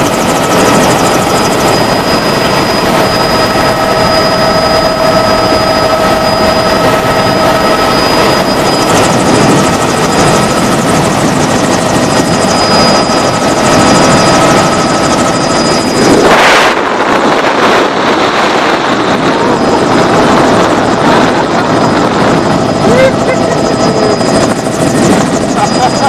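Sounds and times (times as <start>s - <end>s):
helicopter rotor and engine rush: 0.0s - 26.0s
high steady whine: 0.0s - 26.0s.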